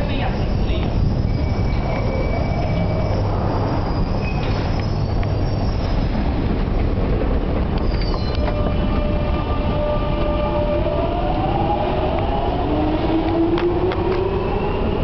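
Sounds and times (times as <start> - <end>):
underground train rumbling on rails: 0.0 - 15.0.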